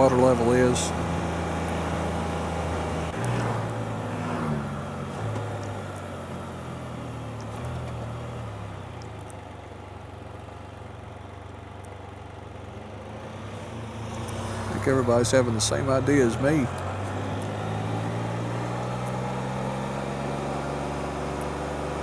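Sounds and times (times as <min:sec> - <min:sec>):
vehicle engine driving: 0:00.0 - 0:22.0.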